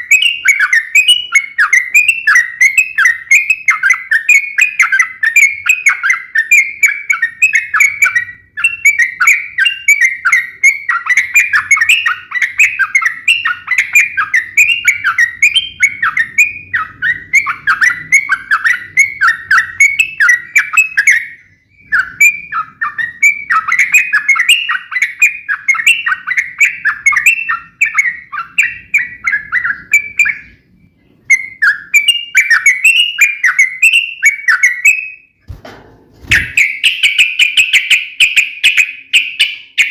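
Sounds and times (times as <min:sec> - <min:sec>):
bulbul chattering song: 0:00.0 - 0:35.4, 0:36.3 - 0:39.9.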